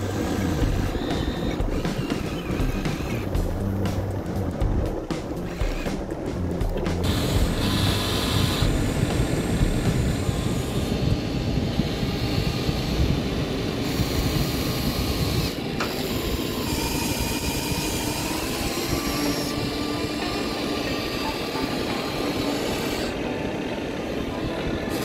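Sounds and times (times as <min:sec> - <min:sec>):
toy electric motor grinding: 0:00.0 - 0:03.3, 0:05.4 - 0:06.0, 0:07.0 - 0:25.0
thin steady whine: 0:00.0 - 0:25.0.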